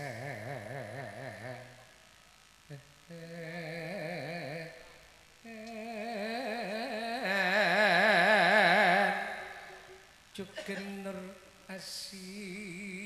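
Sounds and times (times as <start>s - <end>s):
solo voice singing with heavy vibrato: 0.0s - 1.8s, 3.1s - 13.0s.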